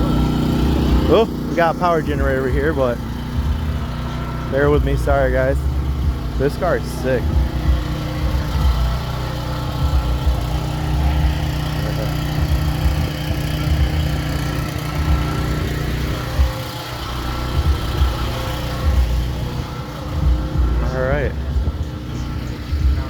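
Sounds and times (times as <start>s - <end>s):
generator engine running: 0.0s - 23.0s.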